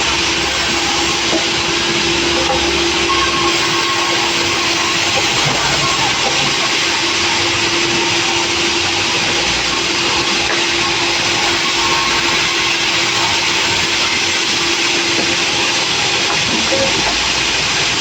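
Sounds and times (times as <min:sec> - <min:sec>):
sawmill saw running: 0:00.0 - 0:18.0.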